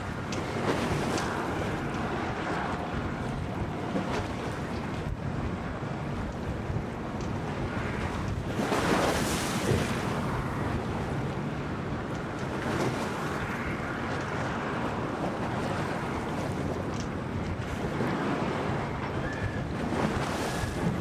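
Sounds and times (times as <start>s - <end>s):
storm wind: 0.0s - 21.0s
waves washing in: 0.0s - 21.0s
wind buffeting microphone: 0.0s - 21.0s.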